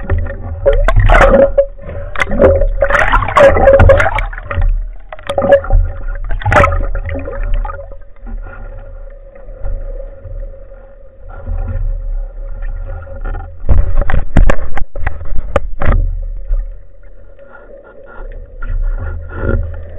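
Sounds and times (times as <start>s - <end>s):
low rumble: 0.0s - 19.9s
underwater bumps and scrapes: 0.0s - 19.9s.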